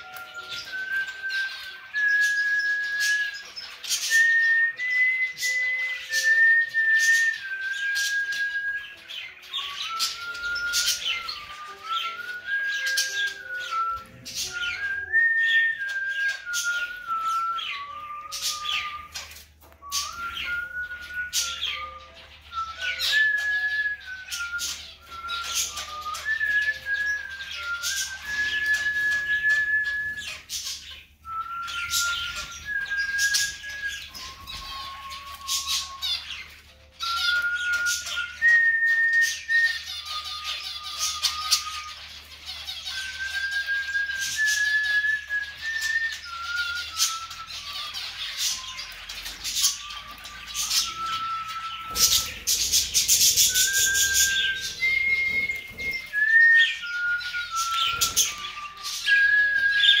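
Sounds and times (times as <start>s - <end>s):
cockatiels chirping: 0.0s - 60.0s
whistled tune: 0.0s - 60.0s.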